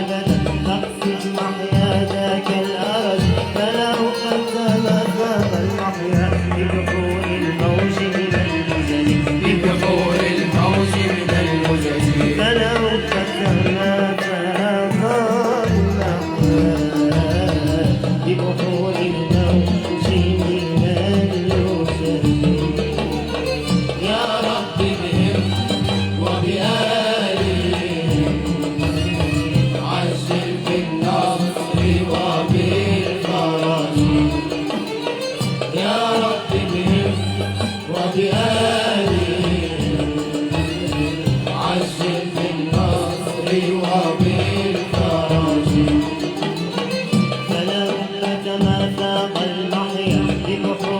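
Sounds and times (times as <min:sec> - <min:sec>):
accompanying instruments: 0:00.0 - 0:50.9
hand drums: 0:00.0 - 0:50.9
person singing wavering melody: 0:00.0 - 0:50.9.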